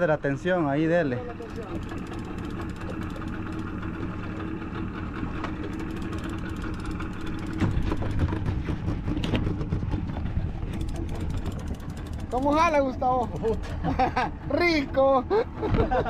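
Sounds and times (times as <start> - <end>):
outboard motor idling: 0.4 - 16.0.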